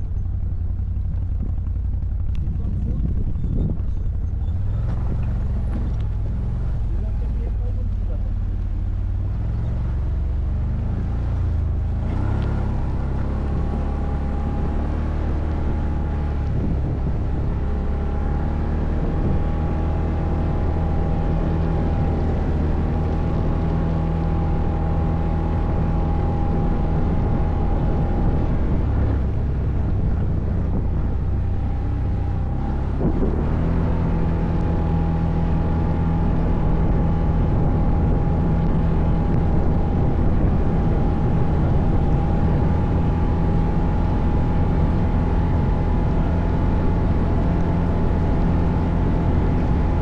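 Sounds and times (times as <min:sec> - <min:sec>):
quad bike engine running: 0:00.0 - 0:50.0.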